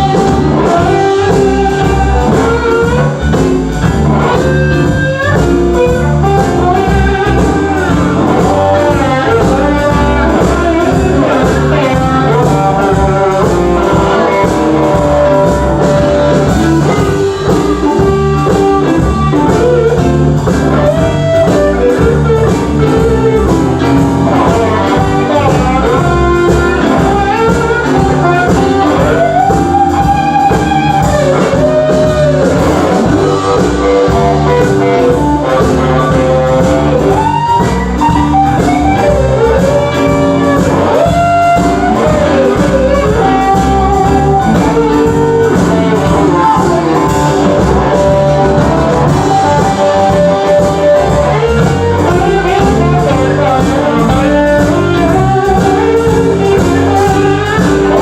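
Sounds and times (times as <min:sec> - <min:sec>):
guitar lead with bending notes: 0:00.0 - 0:58.0
live blues band playing: 0:00.0 - 0:58.0.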